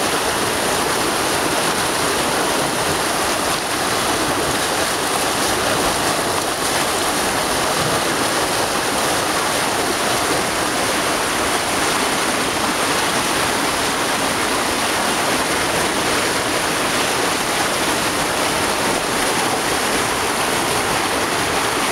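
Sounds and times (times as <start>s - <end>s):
river water rushing: 0.0s - 21.9s.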